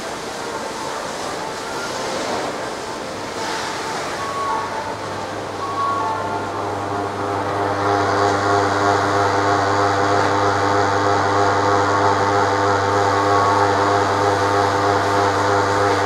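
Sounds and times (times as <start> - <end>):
machinery droning with steady tones: 0.0 - 16.0.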